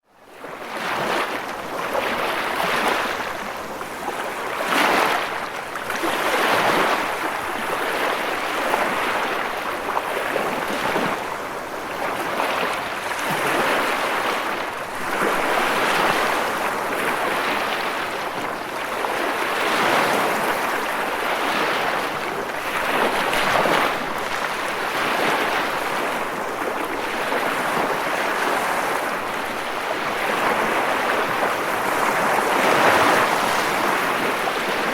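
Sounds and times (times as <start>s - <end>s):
ocean waves breaking on shore: 0.2s - 34.9s.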